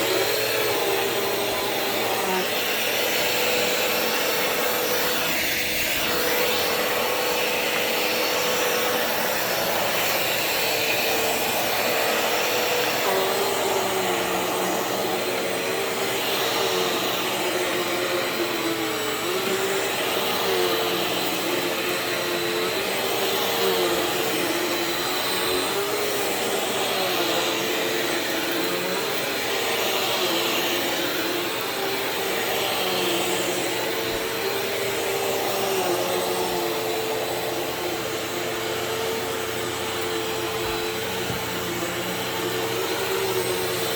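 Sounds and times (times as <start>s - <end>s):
vacuum cleaner running on carpet: 0.0s - 43.9s.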